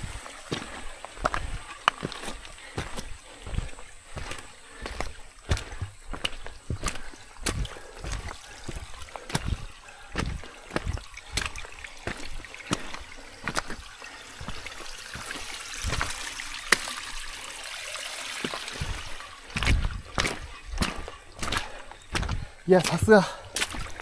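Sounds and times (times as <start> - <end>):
footsteps in water: 0.0 - 24.0
stream running over rocks: 0.0 - 24.0.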